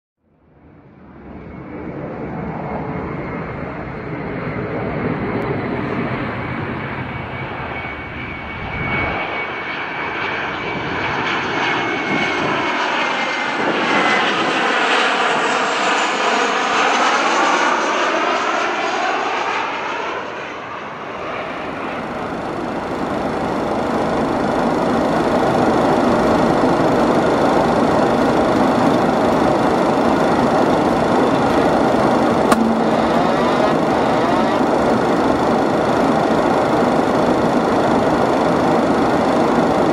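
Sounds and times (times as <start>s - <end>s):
jet engines passing on landing: 0.4s - 39.9s.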